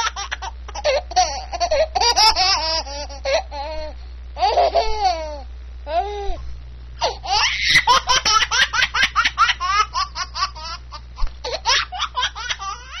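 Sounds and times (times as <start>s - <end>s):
baby laughing: 0.0s - 6.0s, 7.0s - 13.0s.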